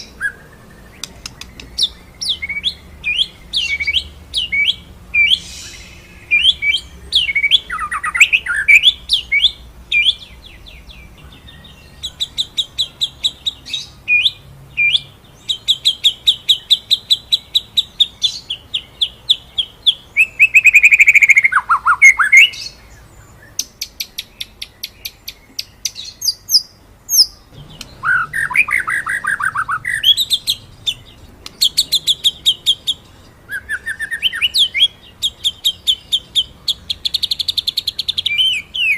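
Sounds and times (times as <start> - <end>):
songbird trilling and singing: 0.0 - 38.9.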